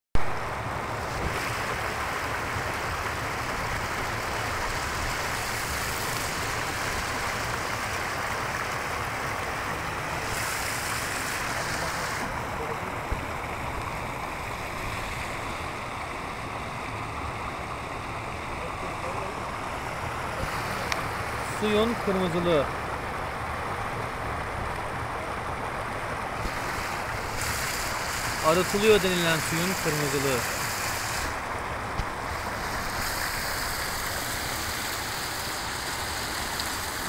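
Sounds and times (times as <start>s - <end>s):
water rushing over rocks: 0.2s - 37.0s.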